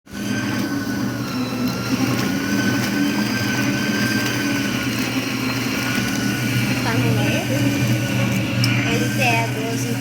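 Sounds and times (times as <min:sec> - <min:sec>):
washing machine motor hum: 0:00.1 - 0:10.0.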